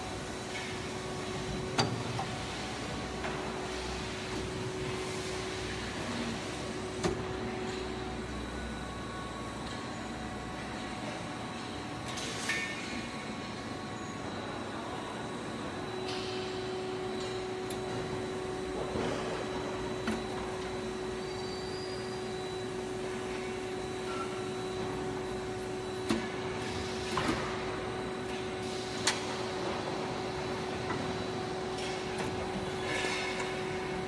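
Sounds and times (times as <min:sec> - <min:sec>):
factory machinery hum: 0:00.0 - 0:34.0.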